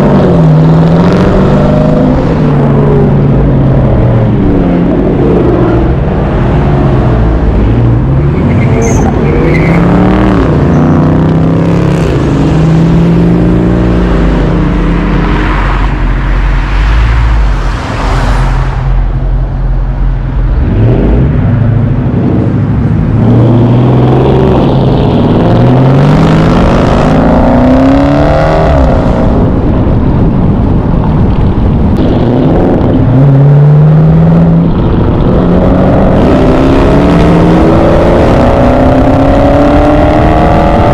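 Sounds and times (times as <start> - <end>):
car engines revving hard: 0.0 - 40.9.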